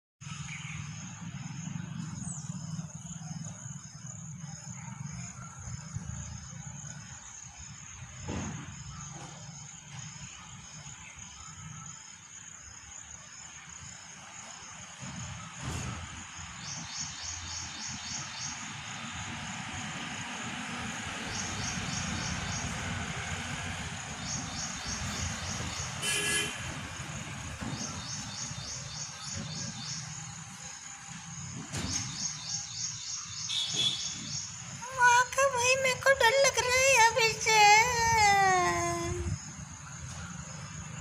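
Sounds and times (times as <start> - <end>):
insects chirring: 0.3 - 41.0.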